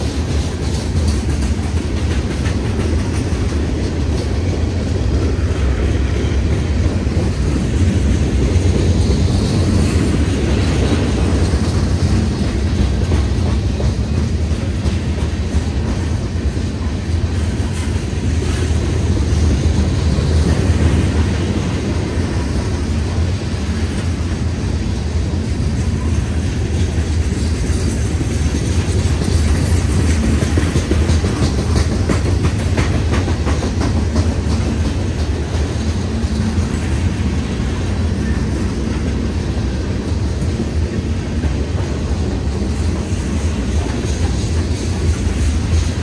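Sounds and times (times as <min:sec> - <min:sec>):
freight train rumbling past: 0:00.0 - 0:46.0
wheels clicking over rails: 0:00.0 - 0:46.0.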